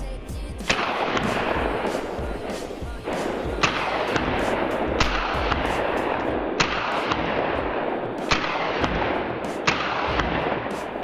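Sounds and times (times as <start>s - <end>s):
fainter gunshot: 0.7s - 11.0s
sharp gunshots: 0.7s - 11.0s
steady rushing noise: 0.7s - 11.0s.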